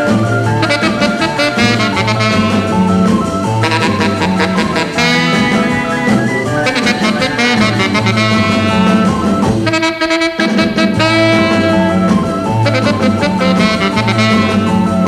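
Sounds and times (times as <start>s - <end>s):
instrumental rock and roll record: 0.0s - 15.0s
saxophone lead line: 0.0s - 15.0s.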